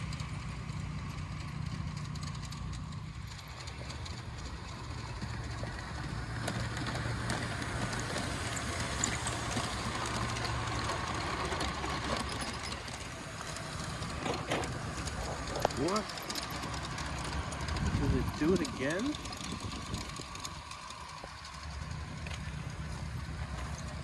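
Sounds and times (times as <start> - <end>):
model train motor hum: 0.0 - 24.0
wheels on rails: 0.0 - 24.0.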